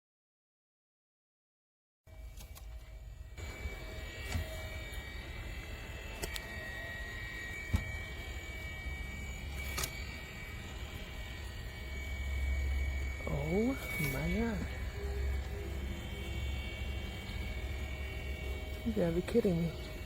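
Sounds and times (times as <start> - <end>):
small electric motor whining: 2.1 - 20.0.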